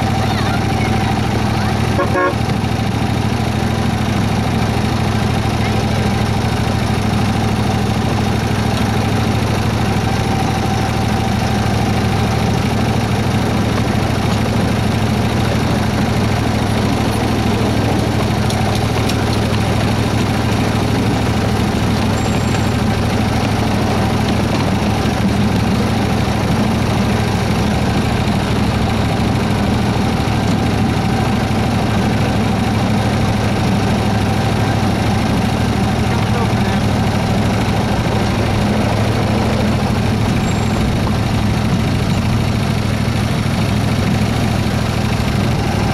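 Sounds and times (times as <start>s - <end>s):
miniature locomotive engine droning: 0.0s - 45.9s.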